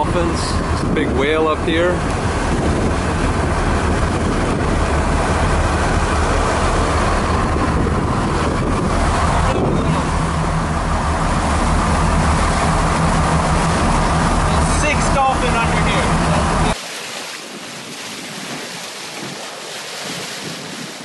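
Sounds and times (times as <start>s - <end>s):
boat engine humming: 0.0s - 21.0s
water noise: 0.0s - 21.0s
wind: 0.0s - 21.0s.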